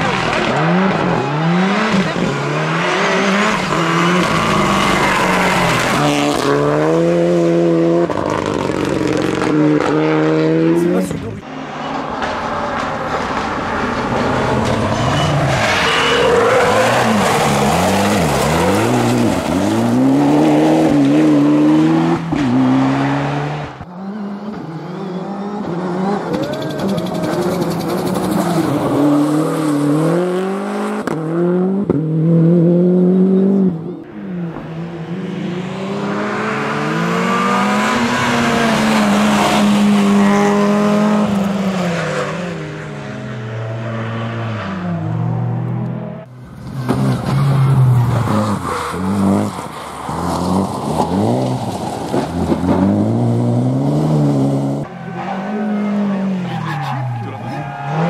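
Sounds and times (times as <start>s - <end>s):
rally cars revving past: 0.0s - 58.0s.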